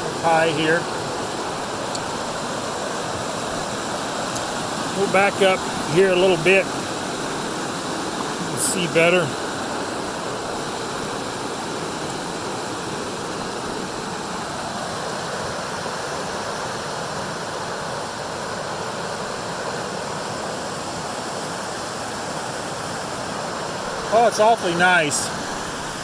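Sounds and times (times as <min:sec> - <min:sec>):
creek rushing over rocks: 0:00.0 - 0:26.0.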